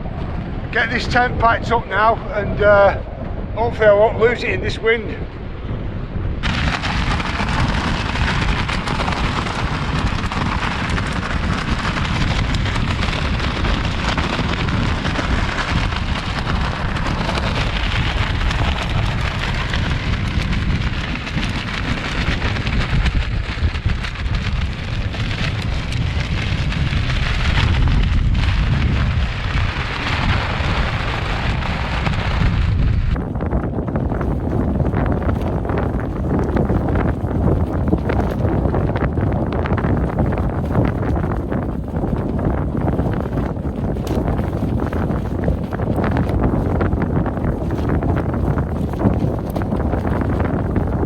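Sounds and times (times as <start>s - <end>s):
strong wind buffeting microphone: 0.0s - 51.0s.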